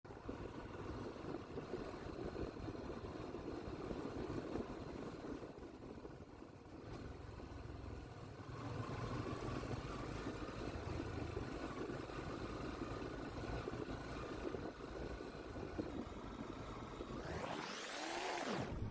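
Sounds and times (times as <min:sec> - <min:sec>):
motorcycle engine running: 0:00.1 - 0:17.2.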